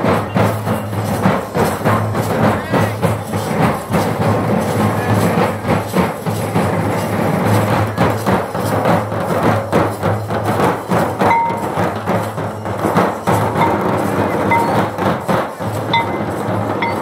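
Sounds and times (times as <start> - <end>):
group drumming: 0.0 - 17.0.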